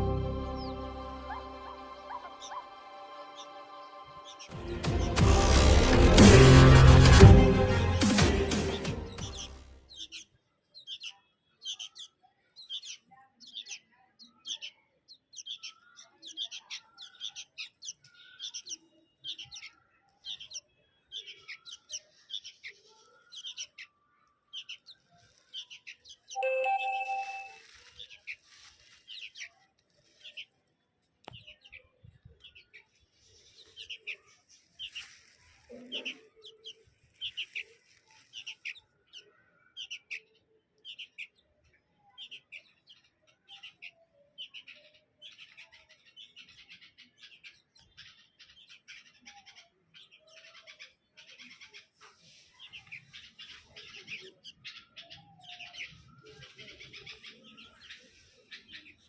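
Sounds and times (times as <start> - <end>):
bulbuls chirping: 0.0 - 5.7, 7.9 - 30.7, 31.3 - 59.0.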